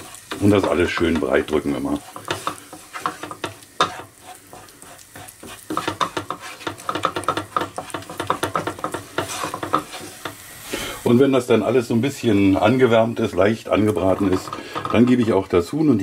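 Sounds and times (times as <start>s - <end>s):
wooden spatula scraping a pan: 0.0s - 15.7s
ghee sizzling: 0.0s - 16.0s.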